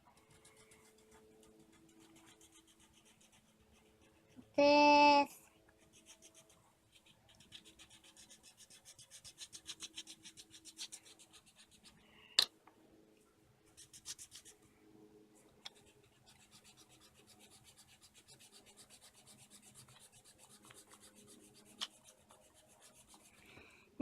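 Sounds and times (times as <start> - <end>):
colouring strokes scratching paper: 0.0 - 4.6, 5.2 - 12.0, 13.7 - 14.6, 15.6 - 23.6.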